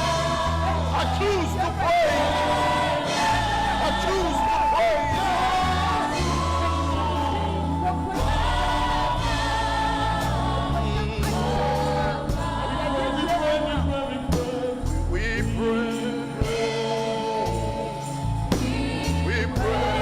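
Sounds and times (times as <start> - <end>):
choir and congregation singing: 0.0 - 20.0
instrumental accompaniment: 0.0 - 20.0.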